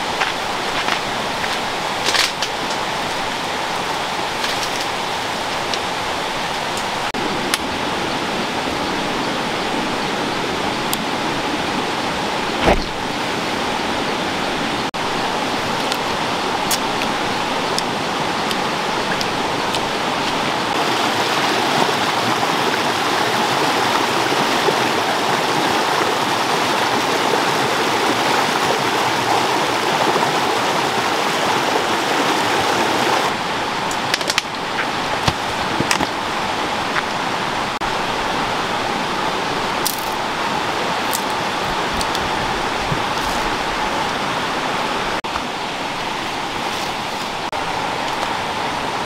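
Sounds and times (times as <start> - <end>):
stream water rushing: 0.0 - 49.0.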